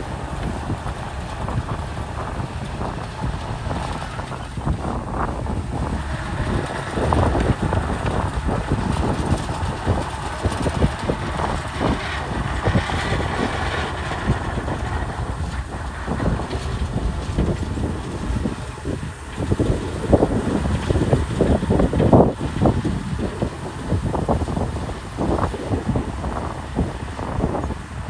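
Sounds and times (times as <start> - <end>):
bulldozer diesel engine running: 0.0 - 28.0
steel tracks clanking: 0.0 - 28.0
wind buffeting microphone: 0.0 - 28.0.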